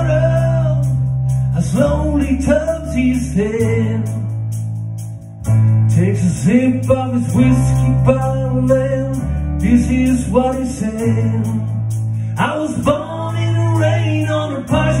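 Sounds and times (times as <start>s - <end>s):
man singing: 0.0s - 4.4s, 5.9s - 15.0s
keyboard sustained low notes: 0.0s - 15.0s.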